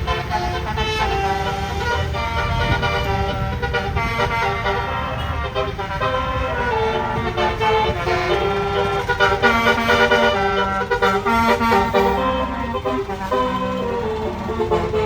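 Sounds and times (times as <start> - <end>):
bus musical horn playing a tune: 0.0 - 15.0.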